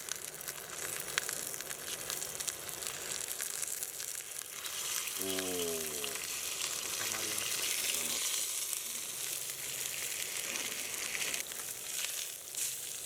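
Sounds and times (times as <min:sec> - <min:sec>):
meat sizzling in a hot pan: 0:00.0 - 0:13.0.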